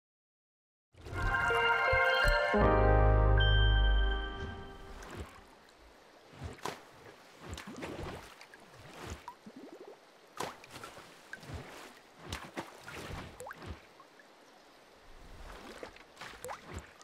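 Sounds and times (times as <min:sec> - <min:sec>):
water splashing and dripping: 0:01.0 - 0:02.5, 0:04.7 - 0:17.0.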